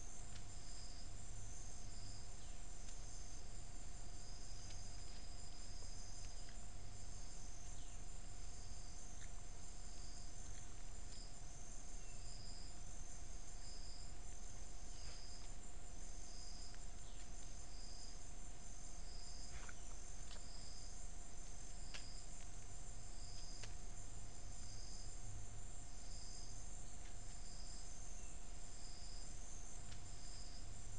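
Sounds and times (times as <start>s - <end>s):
insects trilling: 0.0s - 30.9s
pulsing insect call: 0.0s - 30.9s.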